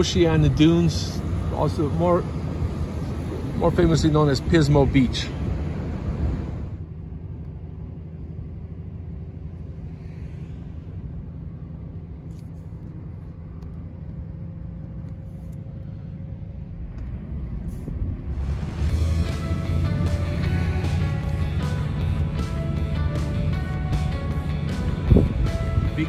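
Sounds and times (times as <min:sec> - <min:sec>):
van driving on sand rumble: 0:00.0 - 0:26.0.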